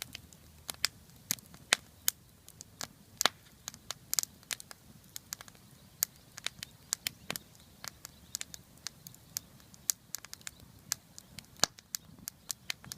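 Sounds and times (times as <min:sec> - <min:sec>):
wood fire crackling: 0:00.0 - 0:12.9.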